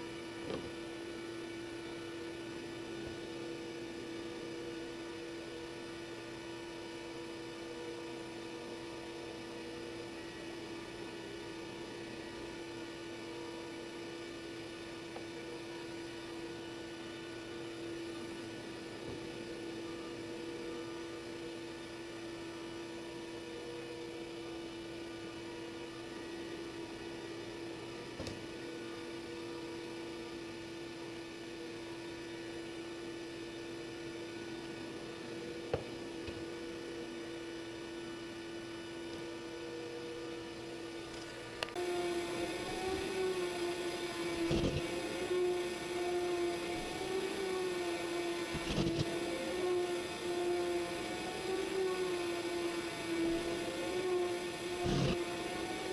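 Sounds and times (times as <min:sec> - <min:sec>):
electric motor hum: 0:00.0 - 0:55.9.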